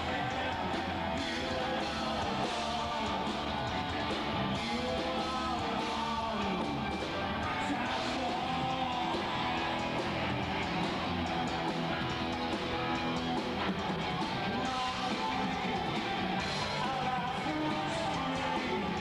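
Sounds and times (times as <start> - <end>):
rock band playing live: 0.0 - 19.0
strummed guitars: 0.0 - 19.0.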